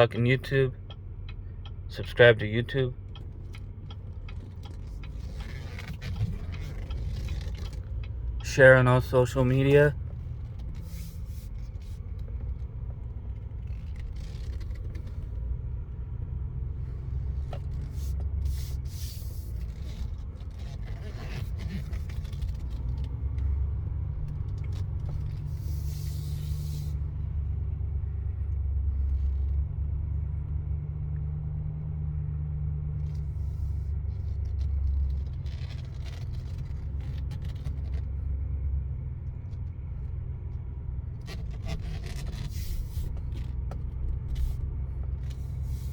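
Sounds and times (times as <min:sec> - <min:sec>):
truck diesel engine rumbling: 0:00.0 - 0:45.9.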